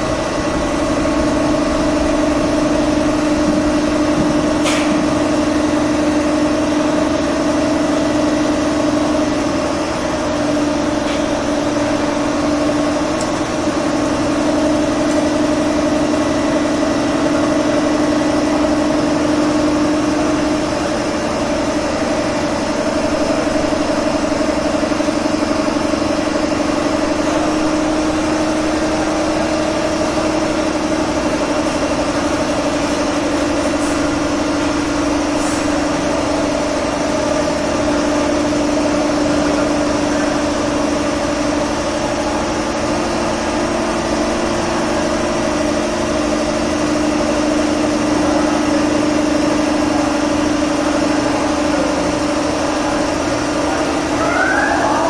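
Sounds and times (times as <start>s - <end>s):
machine hum with whine: 0.0s - 55.0s.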